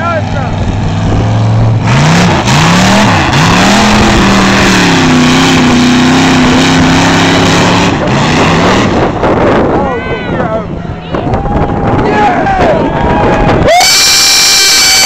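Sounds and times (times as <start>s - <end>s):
truck engine revving: 0.0s - 9.8s, 10.6s - 15.0s.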